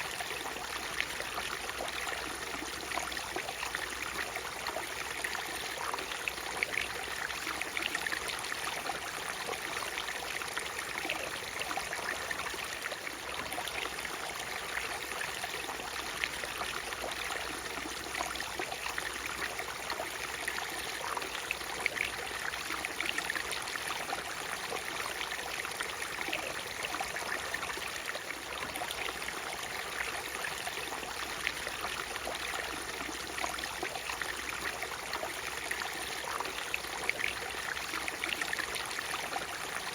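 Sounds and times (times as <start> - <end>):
waterfall splashing and trickling: 0.0 - 39.9.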